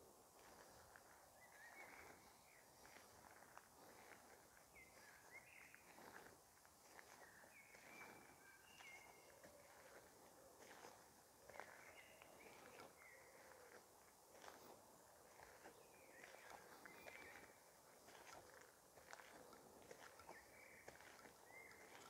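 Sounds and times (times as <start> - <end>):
distant bird calls: 0.4 - 22.0.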